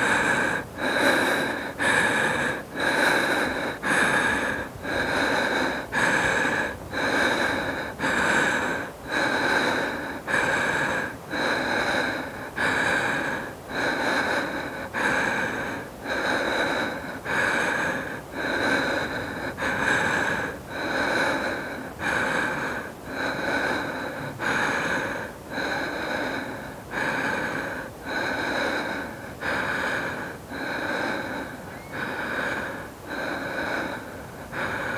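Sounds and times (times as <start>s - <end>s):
woman breathing hard: 0.0s - 34.9s.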